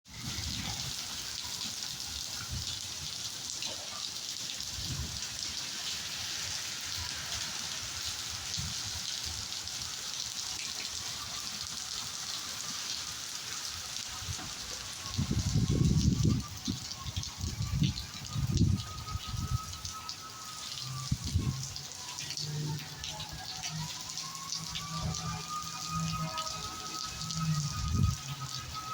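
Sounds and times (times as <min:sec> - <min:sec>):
heavy rain: 0:00.1 - 0:28.9.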